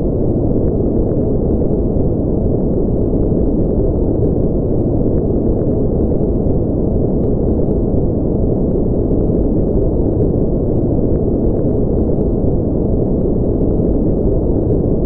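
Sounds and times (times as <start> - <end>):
deep rumbling noise: 0.0 - 15.0.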